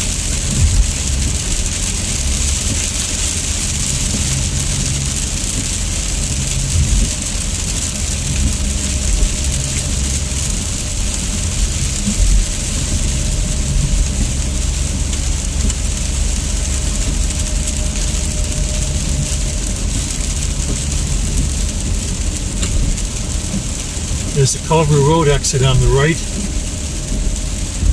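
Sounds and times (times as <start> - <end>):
low road rumble: 0.0 - 27.9
rain on car: 0.0 - 27.9
tyres hissing on wet pavement: 0.0 - 27.9.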